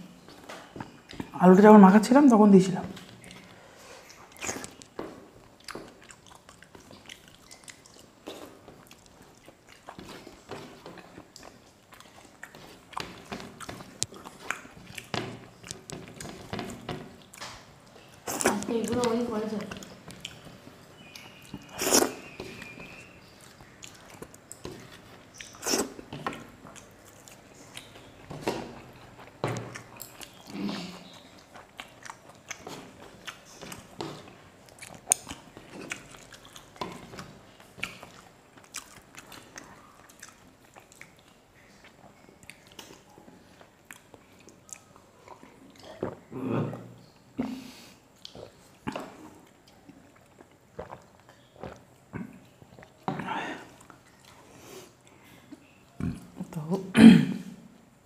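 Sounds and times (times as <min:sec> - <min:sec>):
people chewing: 0:02.9 - 0:56.7.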